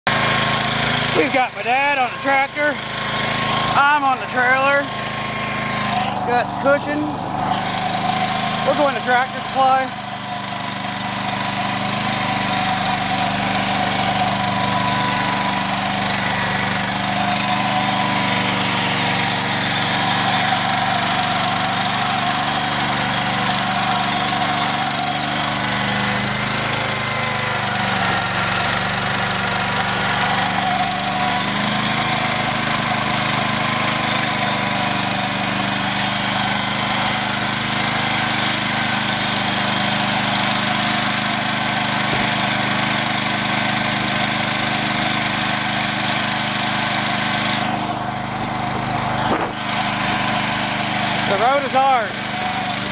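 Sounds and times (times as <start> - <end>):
garden tractor engine running: 0.1 - 52.9.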